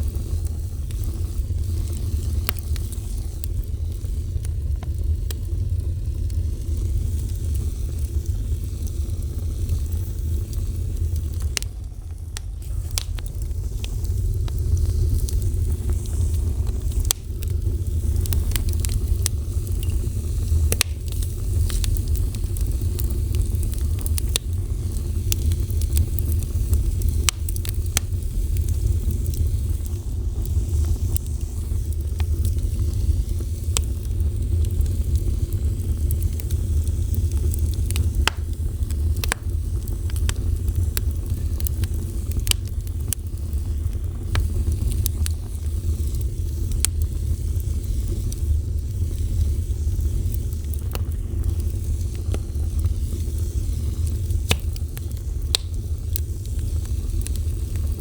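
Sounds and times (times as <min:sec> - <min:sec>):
fire crackling and popping: 0:00.0 - 0:58.0
low rumble of fire: 0:00.0 - 0:58.0.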